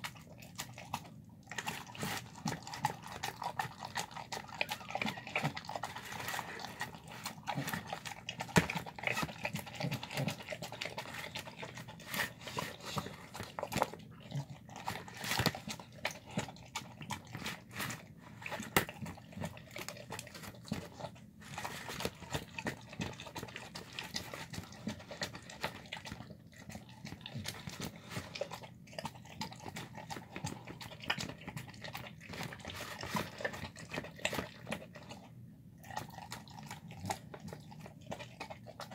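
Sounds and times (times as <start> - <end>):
dog chewing wet food: 0.0 - 38.9.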